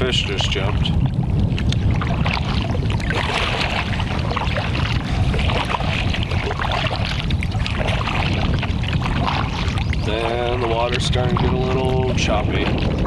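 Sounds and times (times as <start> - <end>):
paddle splashes: 0.0 - 13.0
water lapping against hull: 0.0 - 13.0
wind rumbling on microphone: 0.0 - 13.0.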